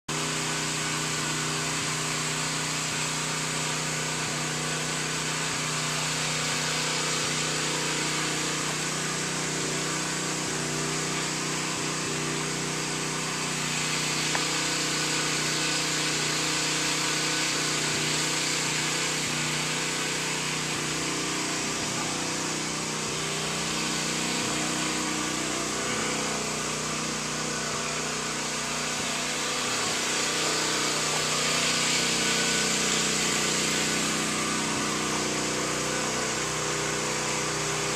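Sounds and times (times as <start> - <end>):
pressure washer hum: 0.1 - 37.9
water spray hissing: 0.2 - 37.9.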